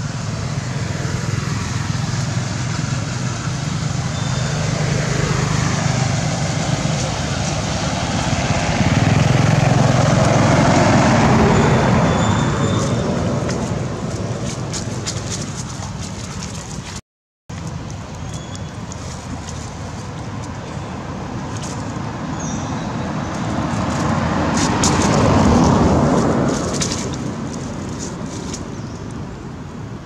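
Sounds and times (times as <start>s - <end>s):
motor vehicle passing: 0.0s - 29.3s
outdoor background noise: 0.0s - 30.0s.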